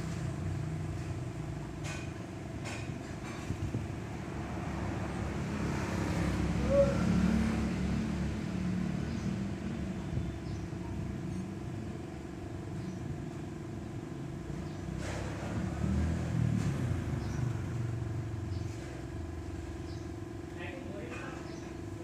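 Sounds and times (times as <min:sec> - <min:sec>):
road traffic: 0:00.0 - 0:22.0
vehicle engine rumbling: 0:00.0 - 0:22.0.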